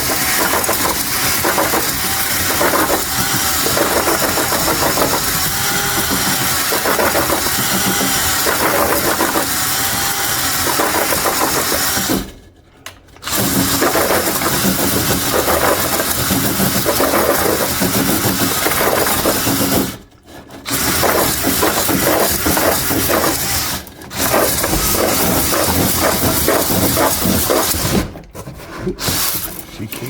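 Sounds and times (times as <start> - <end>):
power drill grinding whir: 0.0 - 12.3, 13.2 - 20.0, 20.6 - 28.0.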